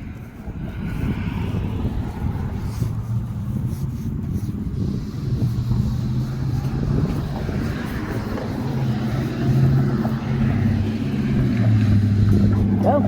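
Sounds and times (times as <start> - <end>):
engine running low hum: 0.0 - 13.0.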